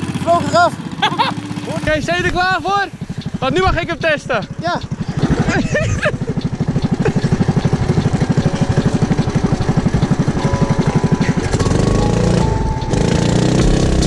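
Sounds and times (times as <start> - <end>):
go-kart engine revving: 0.0 - 14.0.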